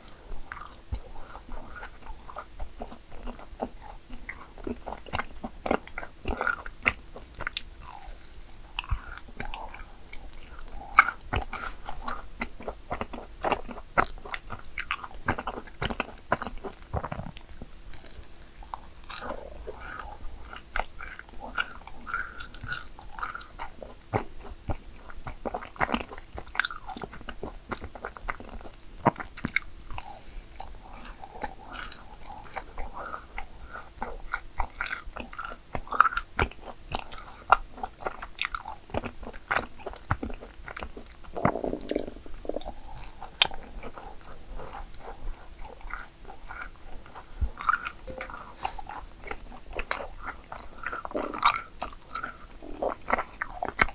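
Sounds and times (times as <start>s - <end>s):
crunching and chewing cookies: 0.0s - 53.9s.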